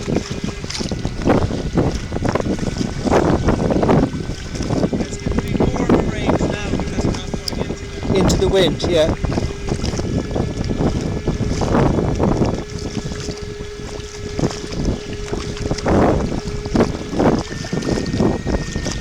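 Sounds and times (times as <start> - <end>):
thin electric motor hum: 0.0 - 19.0
water splashing around kayak: 0.0 - 19.0
wind buffeting microphone: 0.0 - 19.0.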